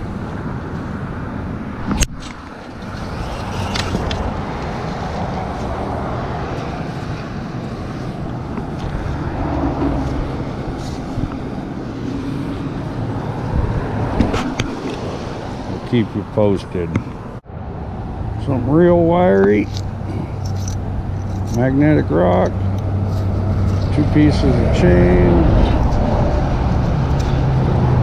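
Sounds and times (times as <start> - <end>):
road traffic noise: 0.0 - 28.0.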